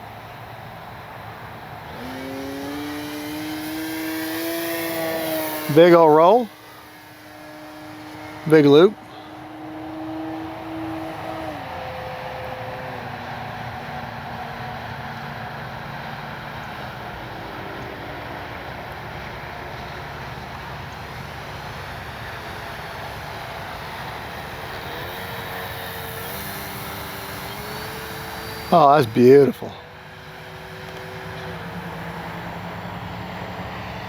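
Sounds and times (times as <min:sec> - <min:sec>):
electric model airplane motor whine: 0:00.0 - 0:34.0.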